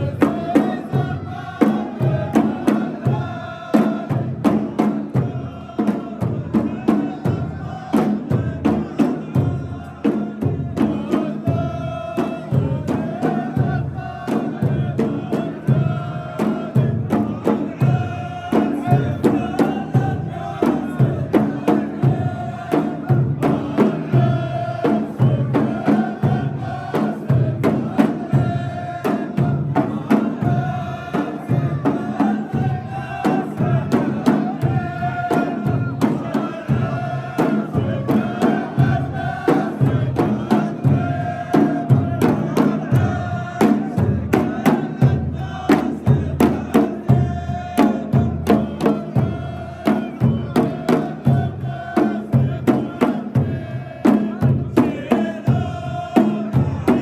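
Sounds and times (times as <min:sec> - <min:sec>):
steady drum beat: 0:00.0 - 0:57.0
voices chanting in unison: 0:00.0 - 0:57.0.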